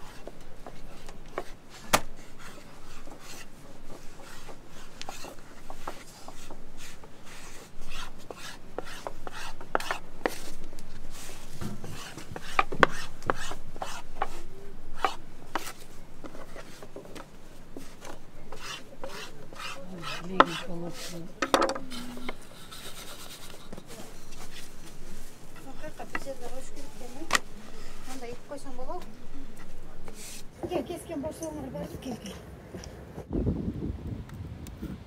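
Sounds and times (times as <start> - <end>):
knocks and scraping on wooden board: 0.0 - 30.8.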